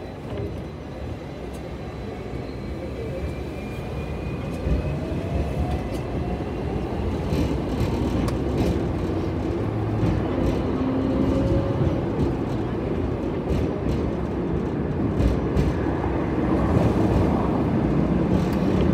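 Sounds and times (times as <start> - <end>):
tram running noise: 0.0 - 18.9.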